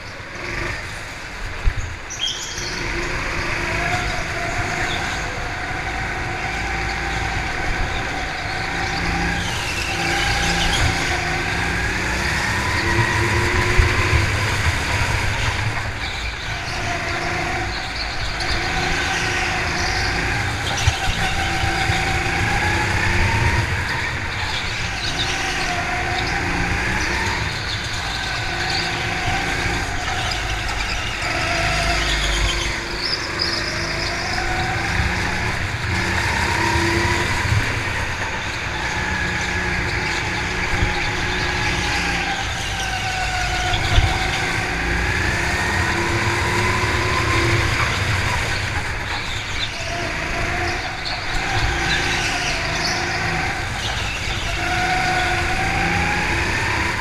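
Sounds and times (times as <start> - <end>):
go-kart motor: 0.0 - 57.0.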